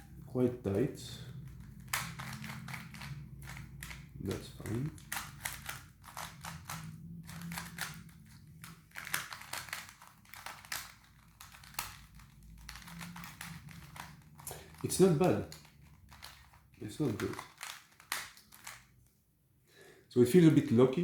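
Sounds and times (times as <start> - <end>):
plastic puzzle clicking as turned: 1.4 - 19.0.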